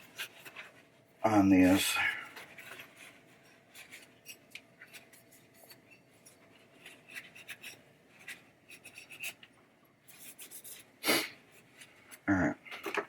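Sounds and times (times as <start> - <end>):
scraping and rubbing of parts: 0.0 - 13.0.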